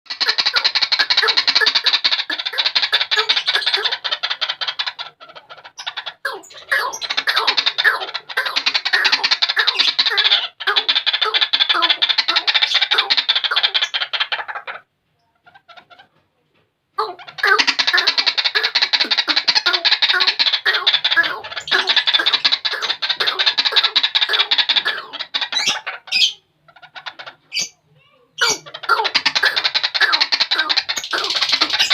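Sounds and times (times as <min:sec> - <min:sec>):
bird harsh repeated calls: 0:00.1 - 0:14.9, 0:17.0 - 0:27.8, 0:28.4 - 0:31.9.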